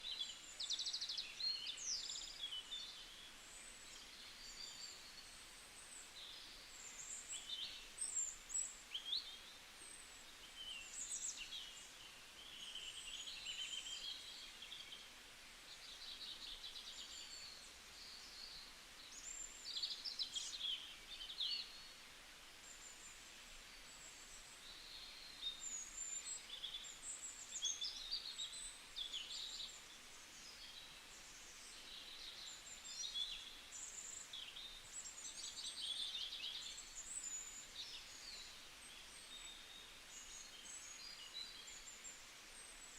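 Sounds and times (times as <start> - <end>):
faint steady hiss: 0.0 - 42.9.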